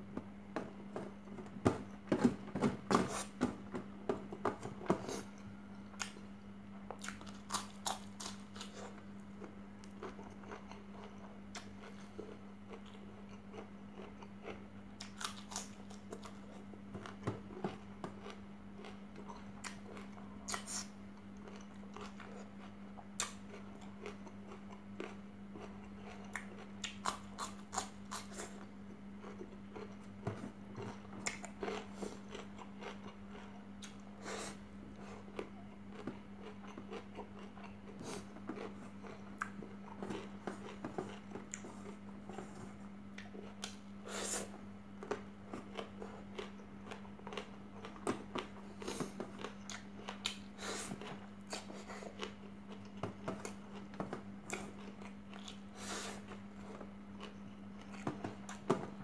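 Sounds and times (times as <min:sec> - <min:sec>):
steady low hum: 0:00.0 - 0:59.0
chewing food: 0:06.9 - 0:34.1, 0:34.9 - 0:43.8, 0:45.0 - 0:58.7.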